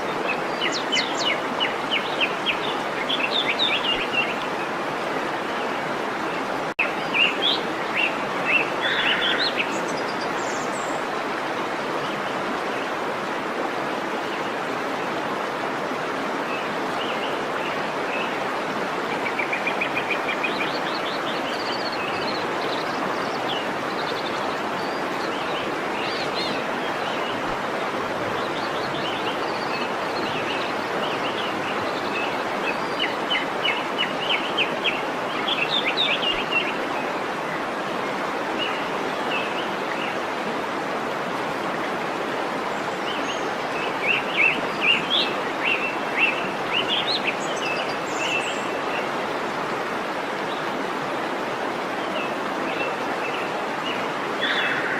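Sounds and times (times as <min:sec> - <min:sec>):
songbirds chirping: 0:00.0 - 0:54.9
waterfall rushing: 0:00.0 - 0:54.9.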